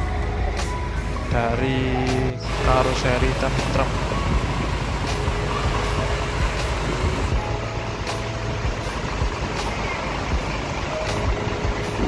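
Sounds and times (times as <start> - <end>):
bus diesel engine idling: 0.0 - 12.0.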